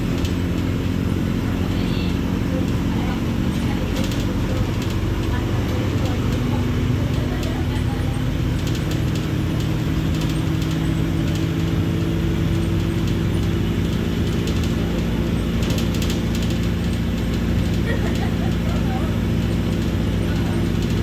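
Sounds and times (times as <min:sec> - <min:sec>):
bus diesel engine humming: 0:00.0 - 0:21.0
light clicks or rattles: 0:03.8 - 0:21.0.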